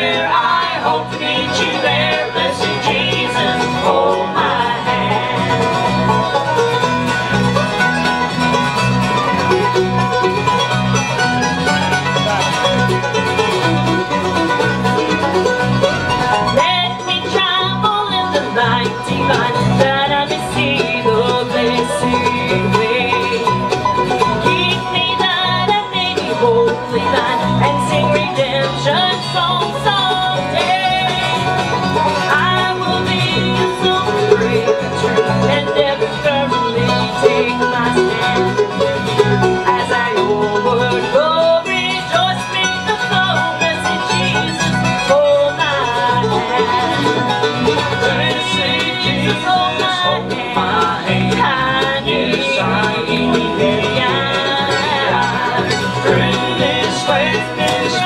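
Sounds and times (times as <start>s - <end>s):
banjo rolls: 0.0s - 58.0s
mandolin: 0.0s - 58.0s
strummed acoustic guitar: 0.0s - 58.0s
upright bass: 0.0s - 58.0s.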